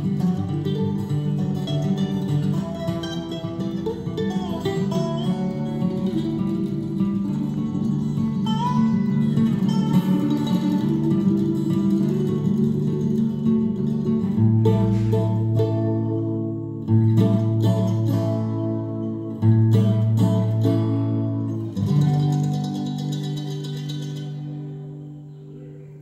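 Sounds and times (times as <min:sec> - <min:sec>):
instrumental guitar music: 0:00.0 - 0:26.0.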